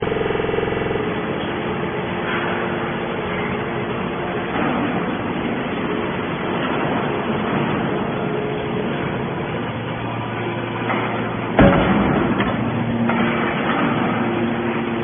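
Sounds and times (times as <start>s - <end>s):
humming tone with overtones: 0.0s - 15.0s
loud machinery din: 0.0s - 15.0s.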